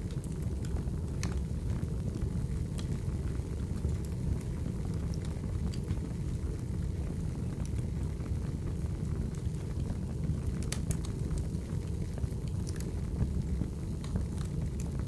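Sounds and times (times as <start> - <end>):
fire crackling and popping: 0.0 - 15.0
fire roaring: 0.0 - 15.0.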